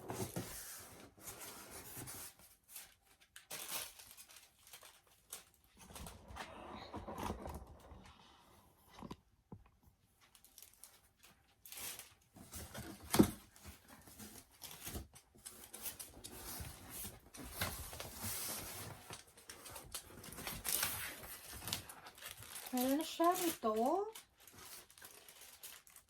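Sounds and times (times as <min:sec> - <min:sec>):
plastic and paper rustling: 0:00.0 - 0:08.1, 0:10.1 - 0:26.0.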